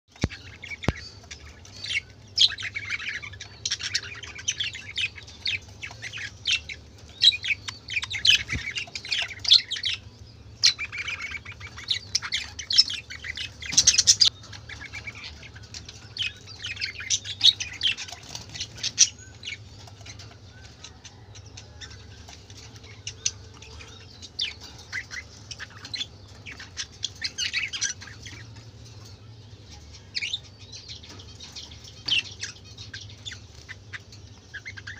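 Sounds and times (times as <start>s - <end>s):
budgerigars chirping and squawking: 0.1s - 34.9s.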